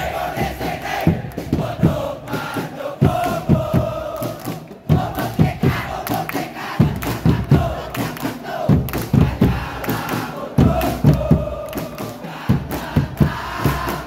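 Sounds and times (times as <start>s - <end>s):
crowd chanting in unison: 0.0s - 14.0s
drum beating: 0.0s - 14.0s.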